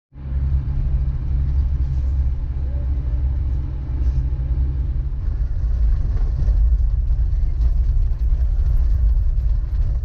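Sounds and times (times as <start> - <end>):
car engine rumbling: 0.1 - 10.0.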